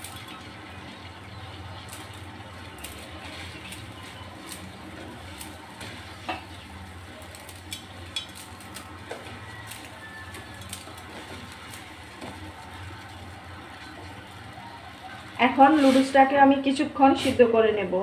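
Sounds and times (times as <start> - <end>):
water boiling in a pot: 0.0 - 18.0.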